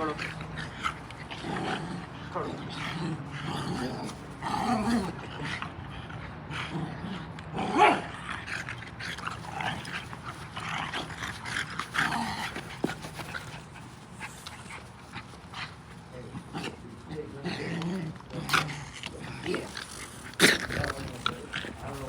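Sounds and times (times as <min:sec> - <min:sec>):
dogs scuffling: 0:00.0 - 0:05.2, 0:08.6 - 0:22.0.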